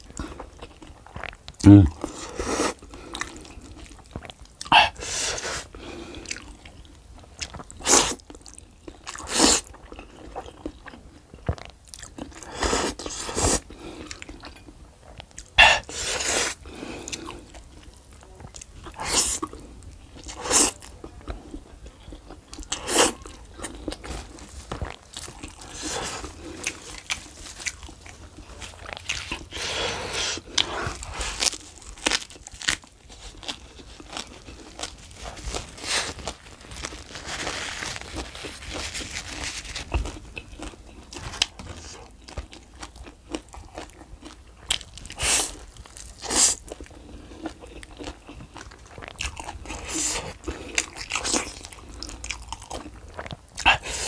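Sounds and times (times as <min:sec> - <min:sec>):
chewing and smacking food: 0:00.0 - 0:05.0, 0:05.7 - 0:15.9, 0:16.6 - 0:54.0.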